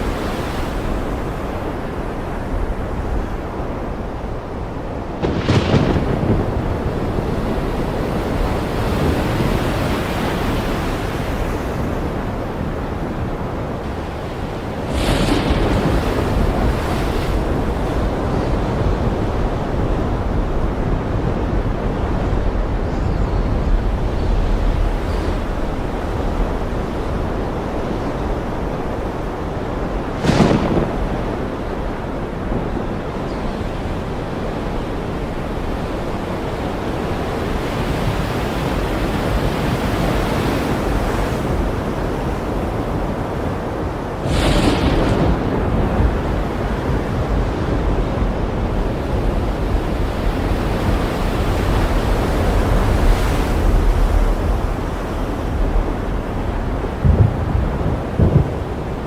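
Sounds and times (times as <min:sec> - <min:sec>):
ocean surf washing: 0:00.0 - 0:59.0
wind: 0:00.0 - 0:59.0.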